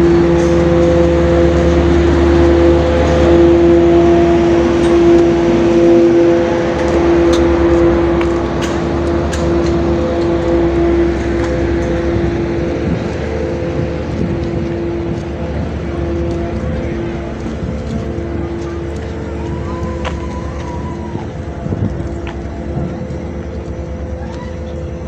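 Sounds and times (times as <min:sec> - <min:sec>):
ferry machinery drone: 0:00.0 - 0:25.0.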